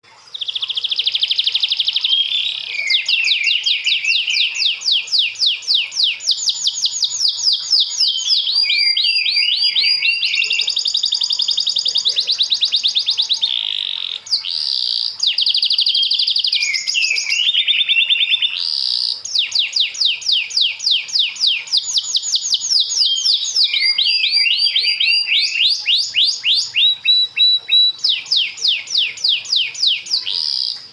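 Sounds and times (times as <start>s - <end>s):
canary trilling song: 0.0s - 30.9s.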